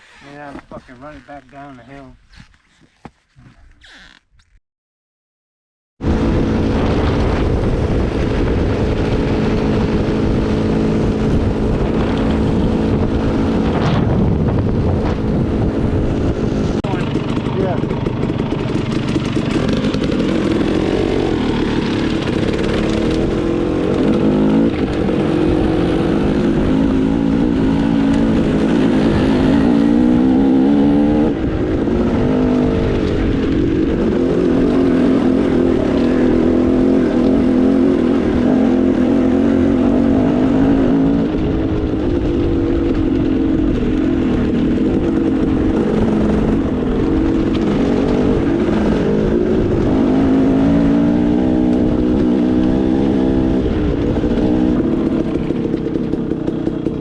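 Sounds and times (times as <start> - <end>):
dirt bike engine revving: 6.0 - 57.0.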